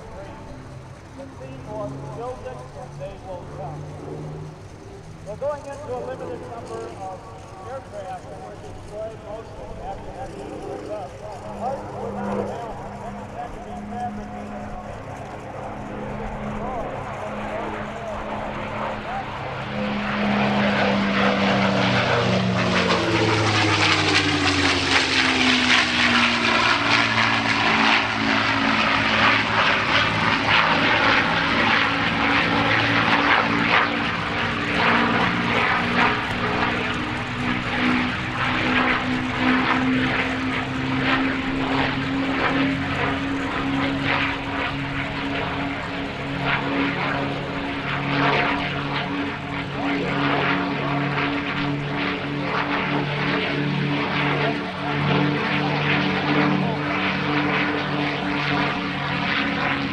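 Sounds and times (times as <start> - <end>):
propeller plane fly-by: 0.0 - 59.9.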